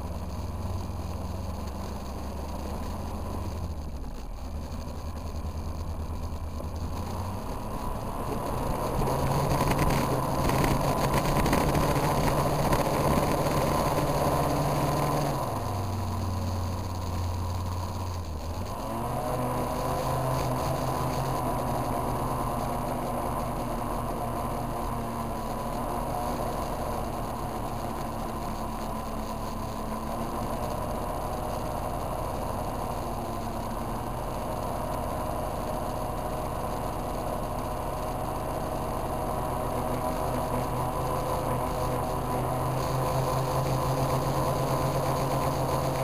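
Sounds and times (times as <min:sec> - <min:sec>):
engine drone in flight: 0:00.0 - 0:46.0.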